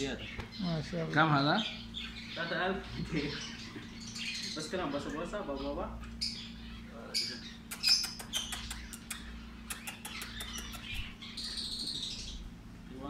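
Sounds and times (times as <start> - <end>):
bird chirping and chattering: 0.0 - 13.0
steady low hum: 0.0 - 13.0.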